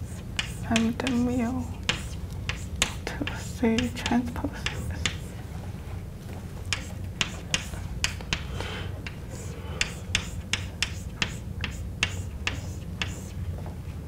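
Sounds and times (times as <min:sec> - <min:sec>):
chalk tapping and scratching: 0:00.0 - 0:05.4, 0:06.6 - 0:13.4
steady low hum: 0:00.0 - 0:14.0.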